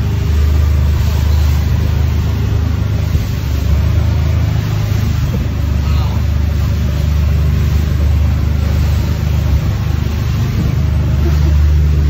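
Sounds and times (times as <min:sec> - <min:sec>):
boat engine droning: 0:00.0 - 0:12.0
churning wake water: 0:00.0 - 0:12.0.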